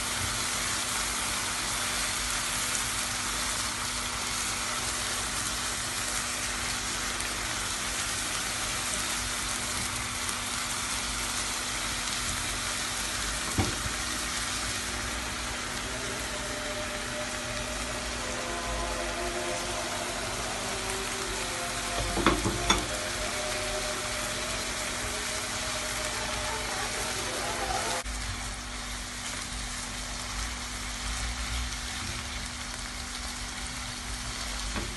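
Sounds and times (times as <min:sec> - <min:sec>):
chicken and onion sizzling: 0:00.0 - 0:34.9.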